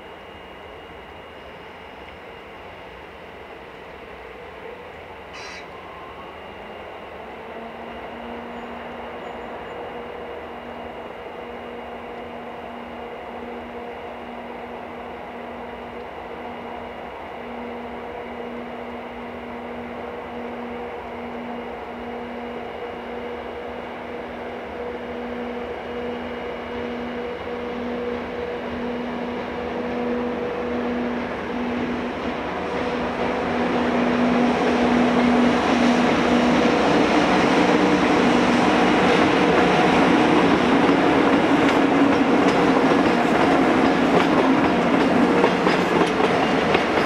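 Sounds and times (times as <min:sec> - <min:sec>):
electric locomotive humming: 0:00.0 - 0:47.0.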